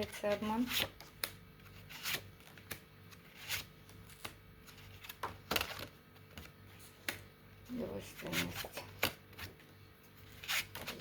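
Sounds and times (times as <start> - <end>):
cards being shuffled: 0.0 - 7.3, 8.1 - 11.0.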